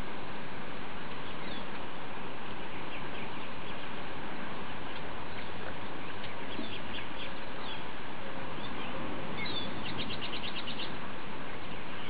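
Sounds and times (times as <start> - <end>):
steady background hiss: 0.0 - 12.0
birds chirping: 1.1 - 12.0.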